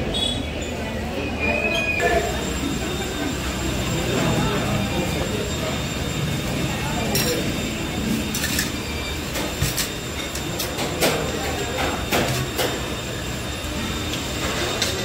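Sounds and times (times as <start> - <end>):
restaurant background noise: 0.0 - 15.0.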